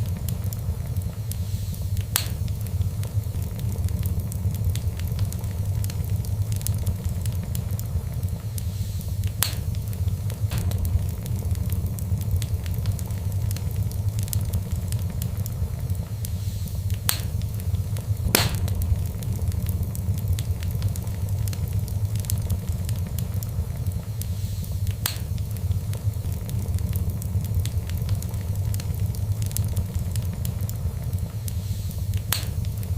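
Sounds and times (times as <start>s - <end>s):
fire crackling: 0.0s - 32.9s
loud fire pops: 0.0s - 32.9s
low fire rumble: 0.0s - 32.9s.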